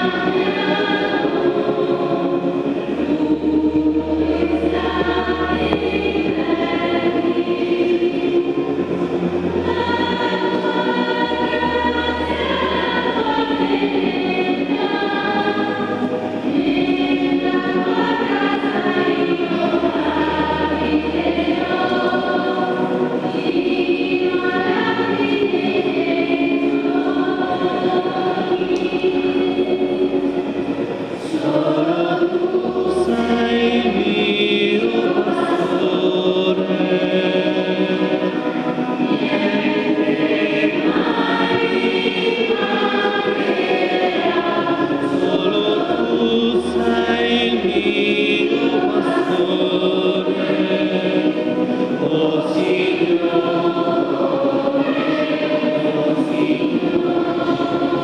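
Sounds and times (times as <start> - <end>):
church choir singing a hymn: 0.0 - 58.0.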